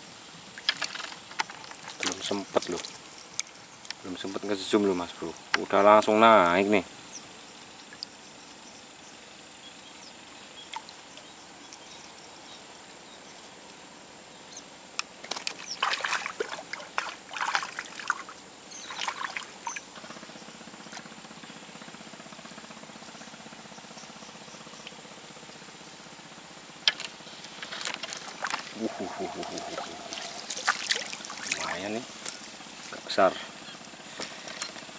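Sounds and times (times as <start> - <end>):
high insect drone: 0.0 - 34.9.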